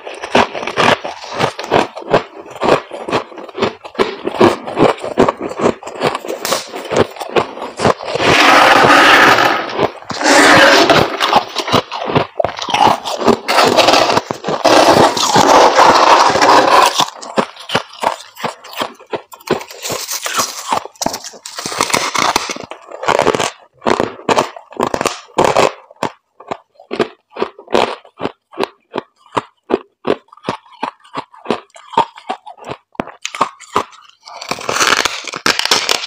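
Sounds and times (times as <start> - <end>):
frost crunching and crackling: 0.0 - 36.0.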